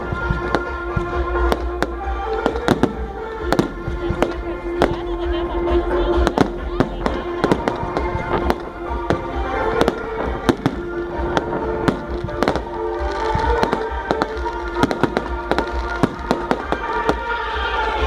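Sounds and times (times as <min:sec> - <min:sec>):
firecrackers banging: 0:00.0 - 0:18.0
music with long held notes: 0:00.0 - 0:18.0.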